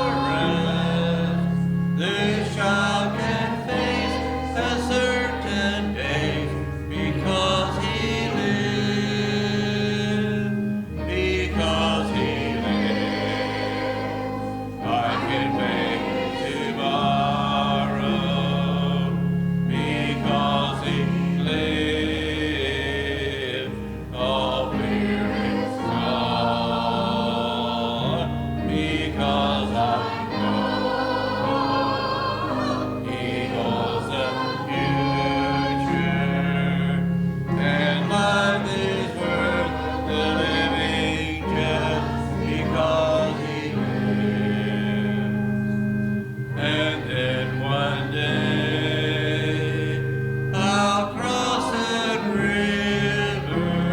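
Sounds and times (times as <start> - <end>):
group singing a hymn: 0.0 - 53.9
instrumental accompaniment: 0.0 - 53.9.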